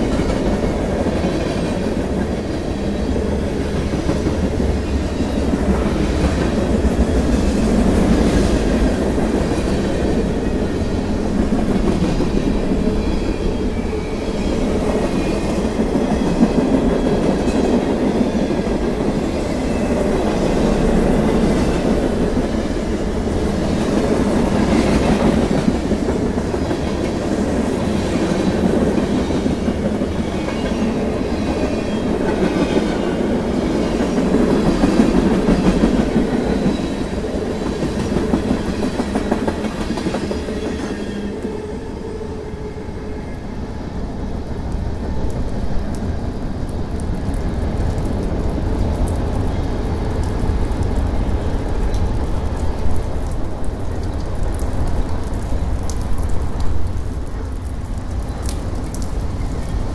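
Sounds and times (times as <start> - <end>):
rain pattering: 0.1 - 12.9, 14.4 - 40.0, 44.1 - 59.9.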